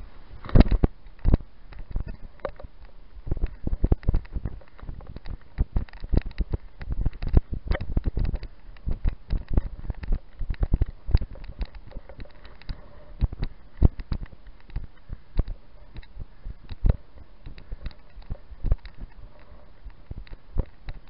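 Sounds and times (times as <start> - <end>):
wind buffeting: 0.0 - 21.0
bike knocks and rattles: 0.4 - 21.0.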